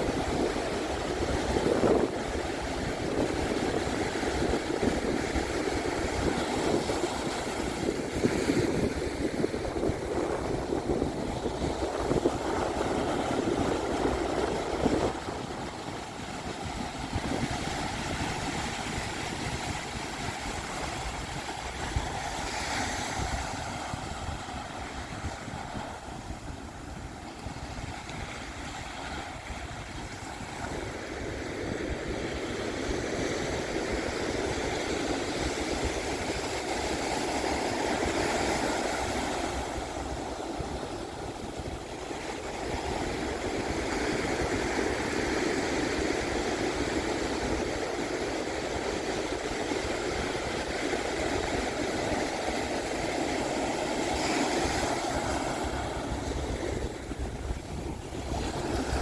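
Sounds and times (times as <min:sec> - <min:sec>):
surf breaking on a beach: 0:00.0 - 0:59.0
wind rumbling on microphone: 0:00.0 - 0:59.0.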